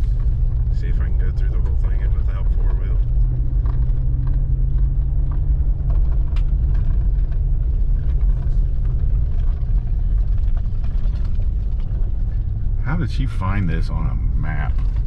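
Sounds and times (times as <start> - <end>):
tyres on dirt trail: 0.0 - 15.0
vehicle engine rumbling: 0.0 - 15.0.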